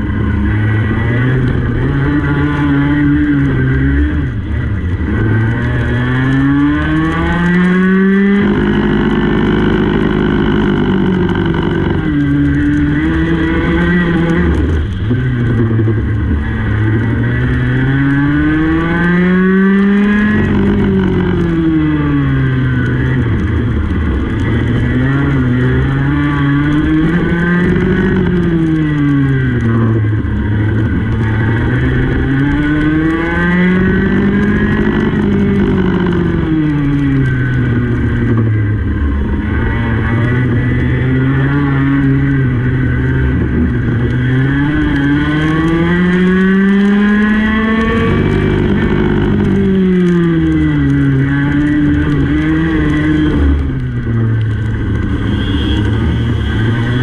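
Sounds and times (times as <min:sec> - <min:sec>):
kart engine accelerating: 0:00.0 - 0:57.0.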